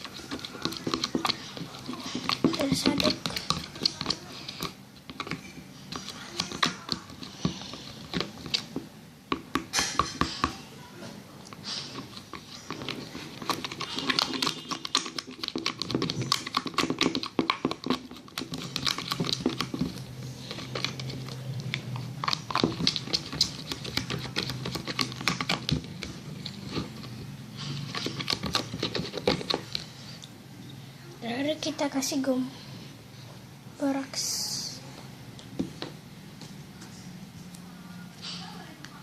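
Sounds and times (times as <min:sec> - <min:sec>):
spoon stirring slime: 0:00.0 - 0:32.8.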